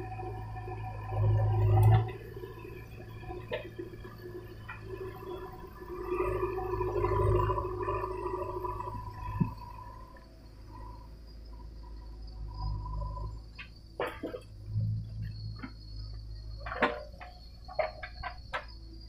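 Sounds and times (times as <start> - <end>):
diesel engine and hydraulics whining: 0.0 - 19.0.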